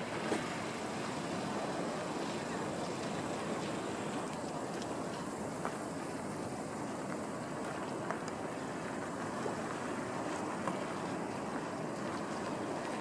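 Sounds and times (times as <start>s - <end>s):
boat engine: 0.0s - 13.0s
water wash along hull: 0.0s - 13.0s.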